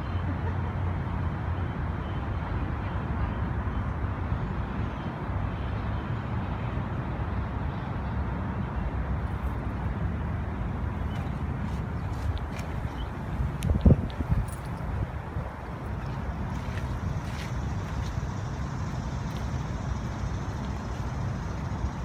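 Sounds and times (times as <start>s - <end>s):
low outdoor rumble with hiss: 0.0s - 22.0s.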